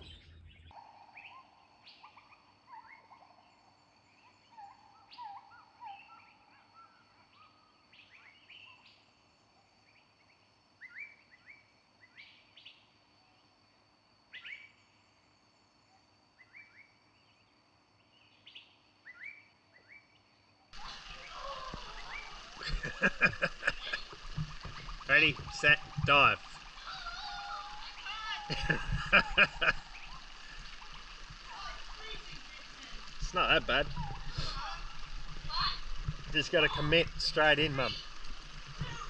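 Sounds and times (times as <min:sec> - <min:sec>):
faint wild bird calls: 0:00.0 - 0:39.0.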